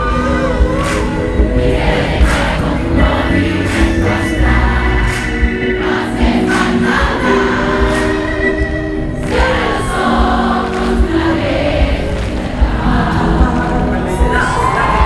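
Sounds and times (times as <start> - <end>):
many voices singing together: 0.0 - 15.0
steady drum beat: 0.0 - 15.0.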